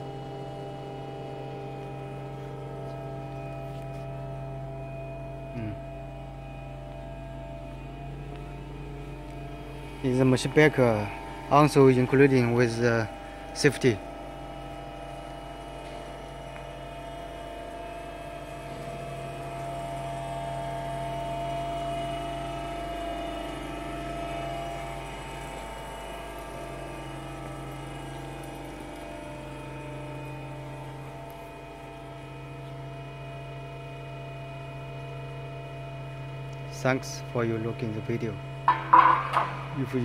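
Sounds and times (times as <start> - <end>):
electric pump motor humming: 0.0 - 40.0.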